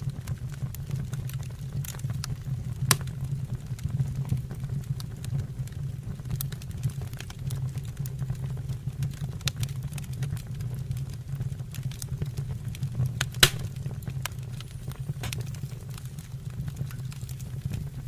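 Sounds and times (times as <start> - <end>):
fire crackling and popping: 0.0 - 18.0
low roar of flames: 0.0 - 18.0.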